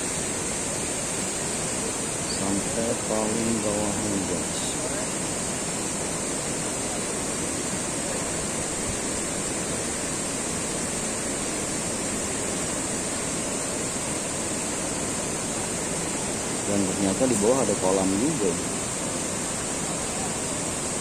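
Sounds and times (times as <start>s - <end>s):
mountain stream rushing over rocks: 0.0s - 21.0s.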